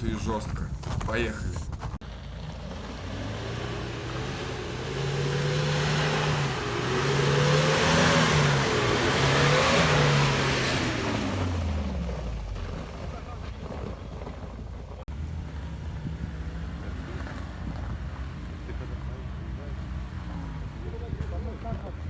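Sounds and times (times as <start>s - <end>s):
engine accelerating: 1.9s - 22.0s.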